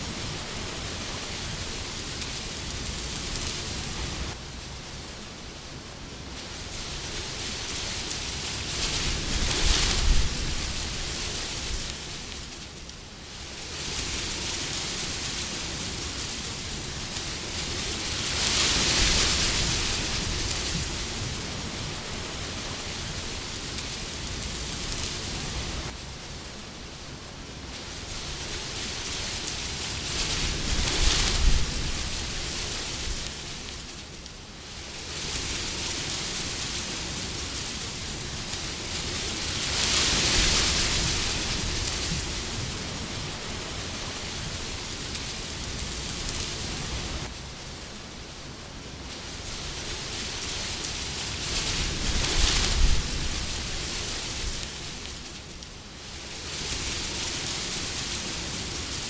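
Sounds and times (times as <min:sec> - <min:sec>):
wind blowing with gusts: 0:00.0 - 0:59.0.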